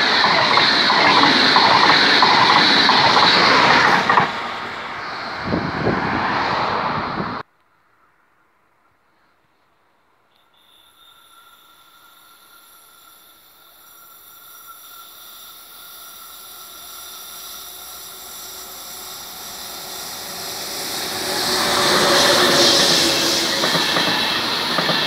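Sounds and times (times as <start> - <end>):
train hiss from rails: 0.0 - 7.4, 9.2 - 25.0.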